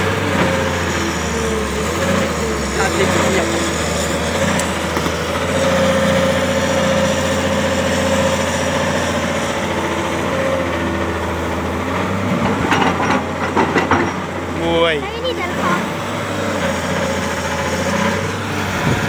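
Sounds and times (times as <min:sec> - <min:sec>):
excavator diesel engine running: 0:00.0 - 0:19.0
hydraulic whine: 0:00.0 - 0:19.0.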